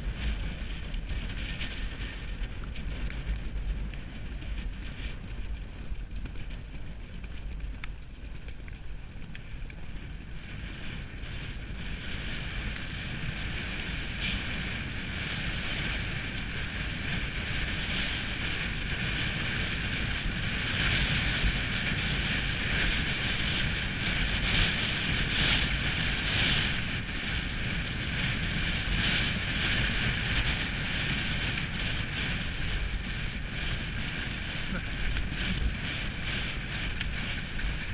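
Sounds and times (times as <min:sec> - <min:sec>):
hooves beating on turf: 0:00.0 - 0:37.9
wind rushing over microphone: 0:00.0 - 0:37.9.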